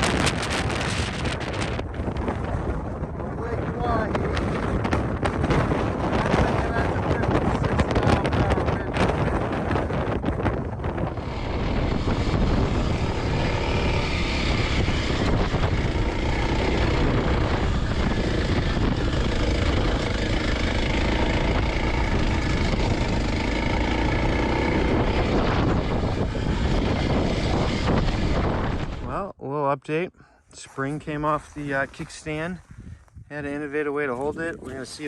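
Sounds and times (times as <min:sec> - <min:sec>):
motorcycle engine running: 0:00.0 - 0:29.2
wind buffeting microphone: 0:00.0 - 0:29.4, 0:30.0 - 0:35.0.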